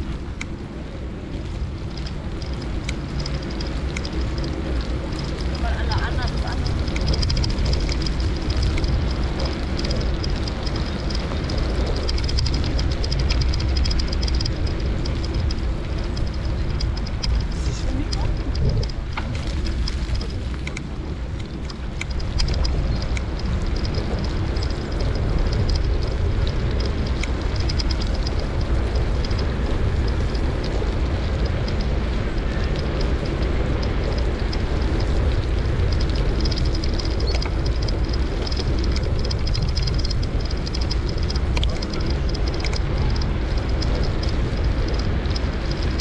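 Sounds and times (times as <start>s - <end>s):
light ticking: 0.0s - 46.0s
tyres rolling on asphalt: 0.0s - 46.0s
wind rumble on microphone: 0.0s - 46.0s.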